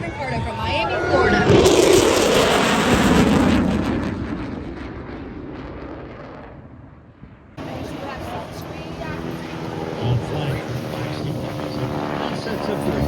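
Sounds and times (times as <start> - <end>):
fighter jet engine passing: 0.0 - 13.0.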